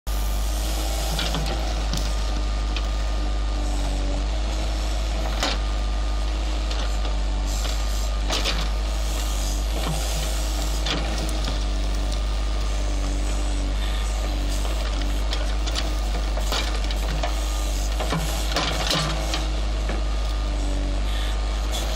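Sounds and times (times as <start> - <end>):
diesel engine under load: 0.1 - 21.9.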